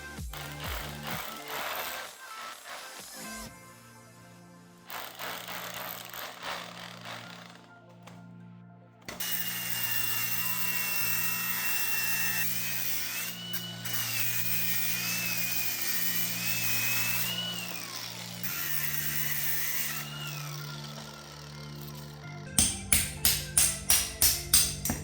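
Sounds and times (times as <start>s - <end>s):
angle grinder cutting metal: 0.0s - 3.5s, 4.9s - 8.1s, 9.1s - 25.0s.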